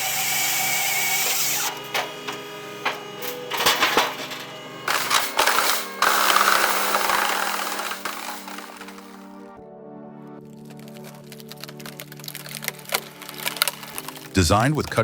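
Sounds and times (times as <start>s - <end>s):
firewood processing machine clatter: 0.0s - 9.3s, 11.0s - 15.0s
background music: 0.0s - 15.0s.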